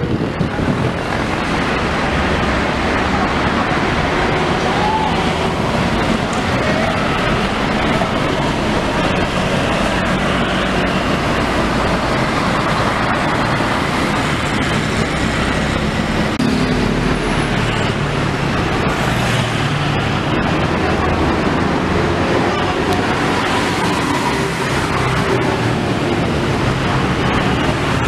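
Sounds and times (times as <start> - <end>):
bus diesel engine: 0.0 - 28.0
cars and motorbikes passing: 0.0 - 28.0.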